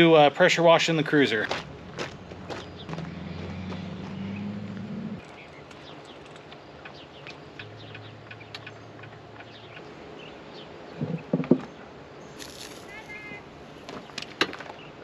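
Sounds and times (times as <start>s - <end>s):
small birds chirping: 1.0s - 15.0s.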